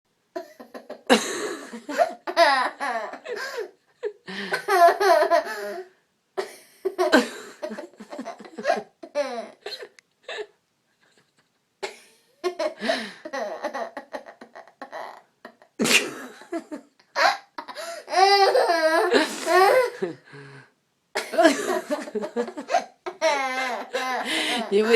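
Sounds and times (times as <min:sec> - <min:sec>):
little girl giggling: 0:00.4 - 0:11.6, 0:12.2 - 0:20.2, 0:21.2 - 0:24.9.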